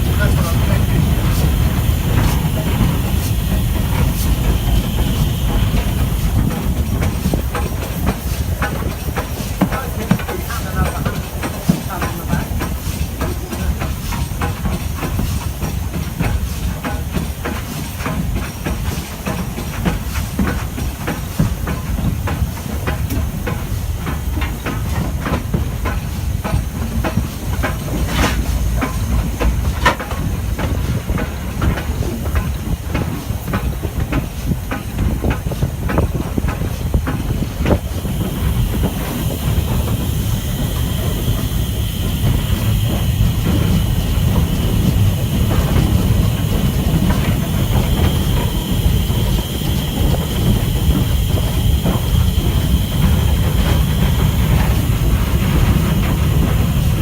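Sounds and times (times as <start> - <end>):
steam hissing: 0.0 - 57.0
steam train rumbling: 0.0 - 57.0.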